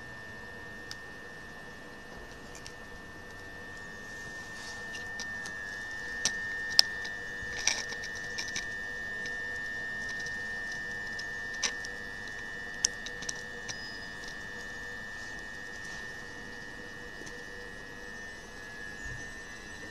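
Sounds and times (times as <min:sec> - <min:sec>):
electric train high-pitched whine: 0:00.0 - 0:19.9
low hum: 0:00.0 - 0:19.9.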